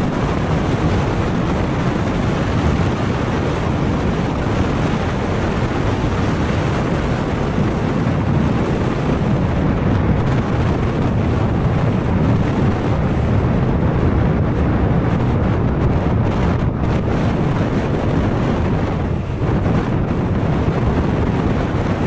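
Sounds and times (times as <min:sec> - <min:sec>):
scooter engine and road noise: 0:00.0 - 0:22.0
wind noise on microphone: 0:00.0 - 0:22.0.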